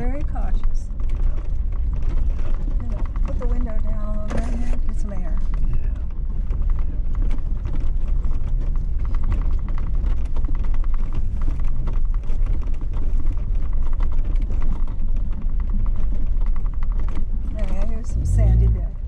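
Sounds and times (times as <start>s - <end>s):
clicks and rattles over stones: 0.0s - 18.8s
vehicle engine and tyres rumbling: 0.0s - 19.0s.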